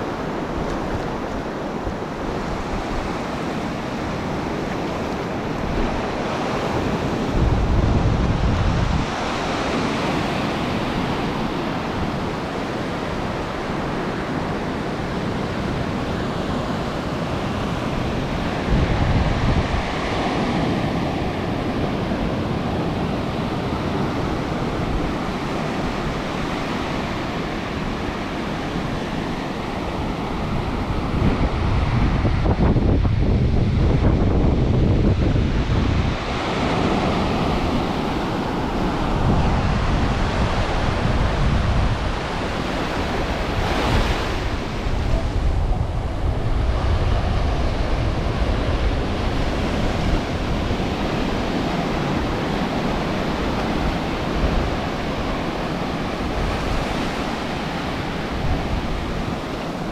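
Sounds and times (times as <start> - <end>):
ocean surf washing on beach: 0.0 - 59.9
wind buffeting microphone: 0.0 - 59.9.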